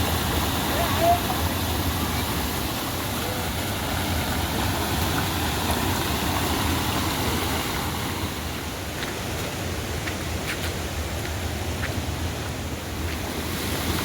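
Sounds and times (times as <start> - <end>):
heavy rain hiss: 0.0 - 14.0.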